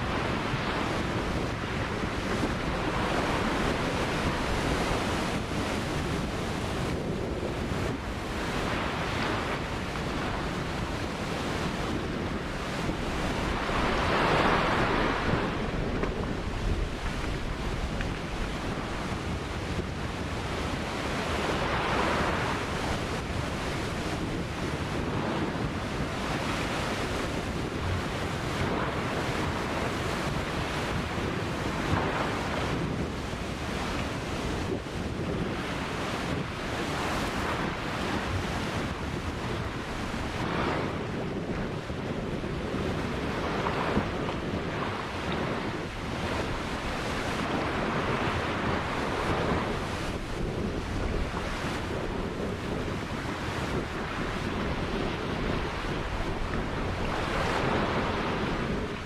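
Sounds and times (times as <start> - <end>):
ocean waves breaking on beach: 0.0 - 59.0
wind noise on microphone: 0.0 - 59.0.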